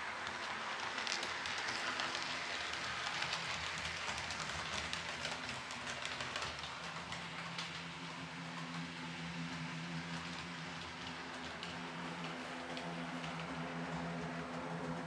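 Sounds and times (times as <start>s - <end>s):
model train wheels clicking on rails: 0.0s - 15.0s.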